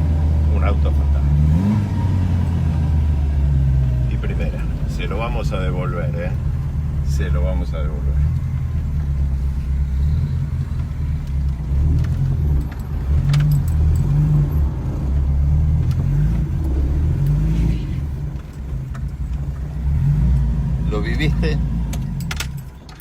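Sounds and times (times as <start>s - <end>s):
race car engine rumbling: 0.0s - 23.0s.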